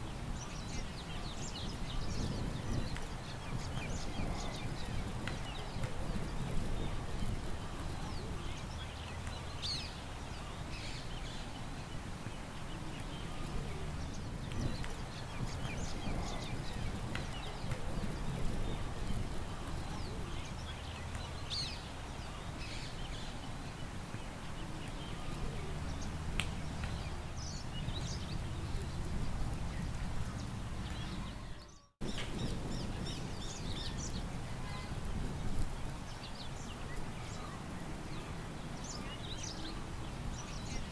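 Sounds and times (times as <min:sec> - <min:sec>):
low rumble of wind: 0:00.0 - 0:40.9
small birds chirping: 0:00.0 - 0:40.9.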